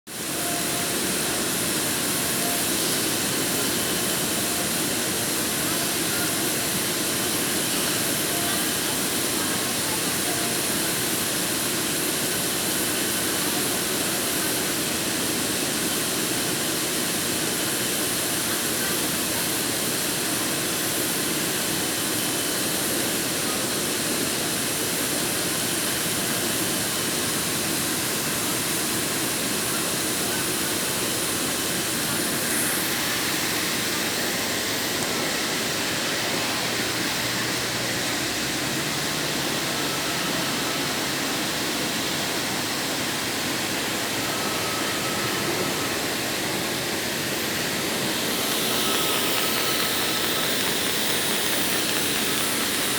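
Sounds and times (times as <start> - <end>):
welding equipment hiss and drone: 0.1 - 52.9.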